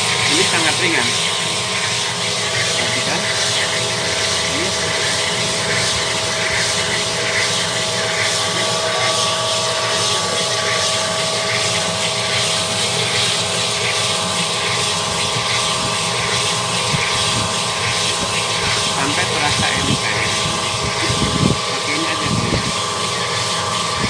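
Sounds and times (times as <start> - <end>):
abrasive stones working in cylinder: 0.0 - 24.0
honing machine motor humming: 0.0 - 24.0.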